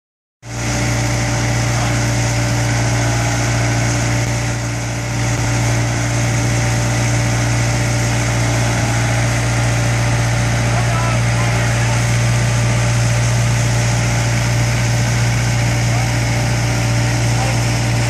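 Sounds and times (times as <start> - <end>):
bark blower engine drone: 0.4 - 18.0.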